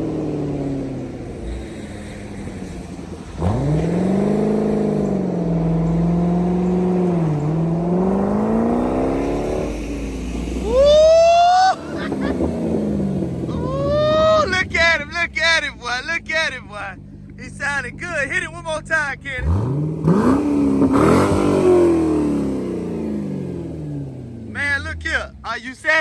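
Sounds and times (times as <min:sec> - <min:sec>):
car engine revving hard: 0:00.0 - 0:25.5.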